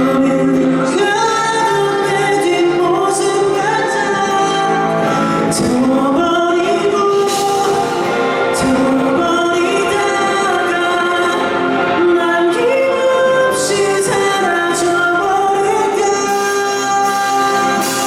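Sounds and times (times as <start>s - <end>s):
person singing a ballad: 0.0s - 18.0s.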